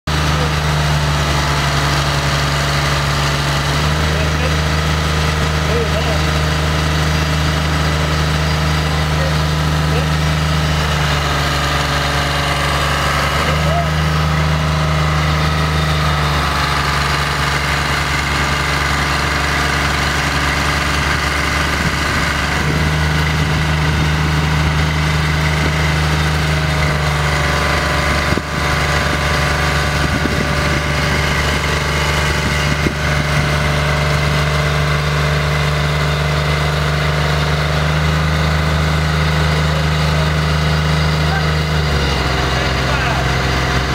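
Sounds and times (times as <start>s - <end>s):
engine idling: 0.0s - 43.9s
high hydraulic whine: 0.1s - 43.9s.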